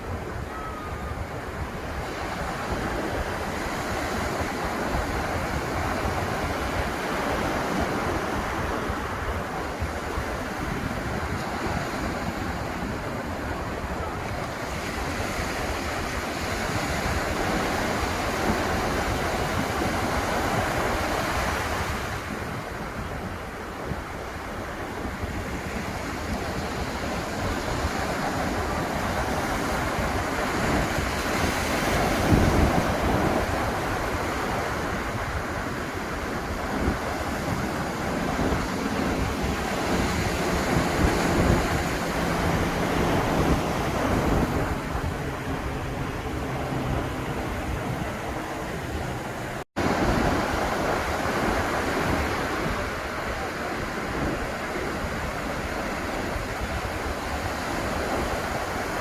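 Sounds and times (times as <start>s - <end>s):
ocean waves breaking: 0.0s - 59.0s
wind buffeting microphone: 0.0s - 59.0s.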